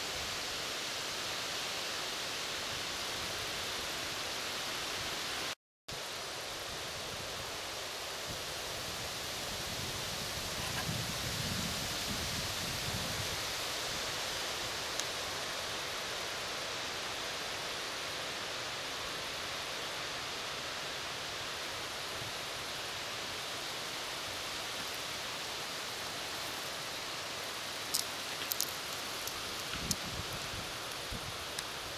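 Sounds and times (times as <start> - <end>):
outdoor background hiss: 0.0 - 31.9.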